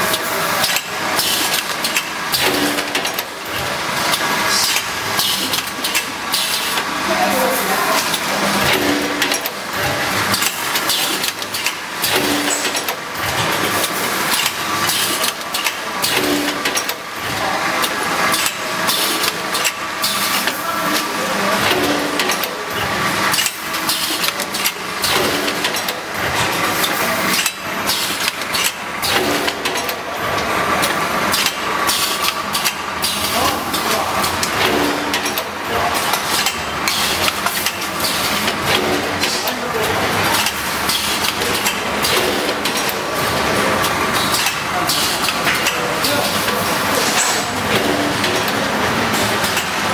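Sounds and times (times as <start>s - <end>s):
packaging machine running: 0.0s - 49.9s
sharp mechanical clacks: 0.1s - 6.9s, 8.0s - 21.0s, 21.6s - 49.9s.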